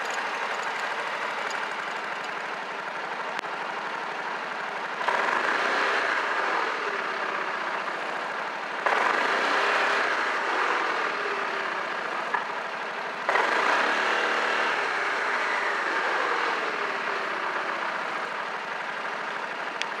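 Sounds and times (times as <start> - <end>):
scooter engine idling and revving: 0.0 - 20.0.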